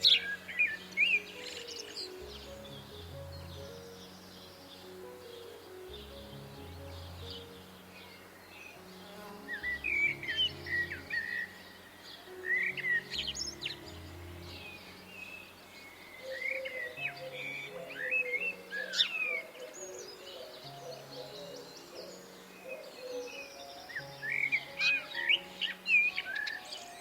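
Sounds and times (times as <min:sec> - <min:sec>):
small birds chirping: 0:00.0 - 0:27.0
soft background music: 0:00.0 - 0:27.0.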